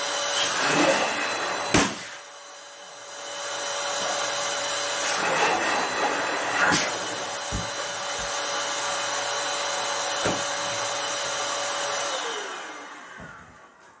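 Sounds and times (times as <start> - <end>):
balloon inflator motor whining: 0.0 - 14.0.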